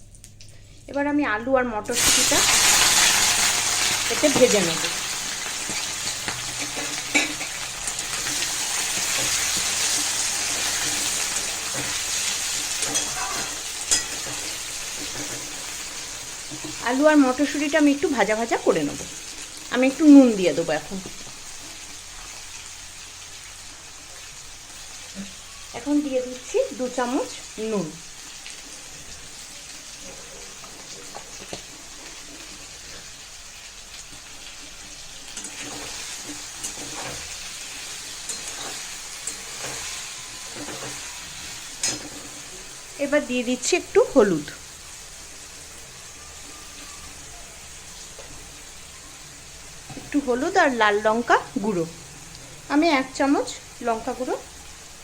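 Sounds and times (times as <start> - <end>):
vegetables sizzling in hot oil: 1.9 - 55.0.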